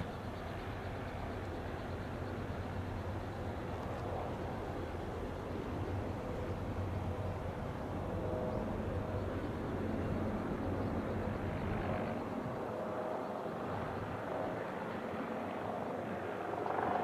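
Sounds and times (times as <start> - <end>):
distant helicopter drone: 0.0 - 17.0.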